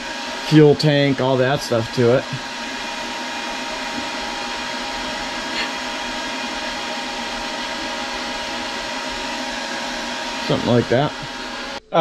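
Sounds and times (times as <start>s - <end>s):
machine motor whirring hum: 0.0s - 11.9s.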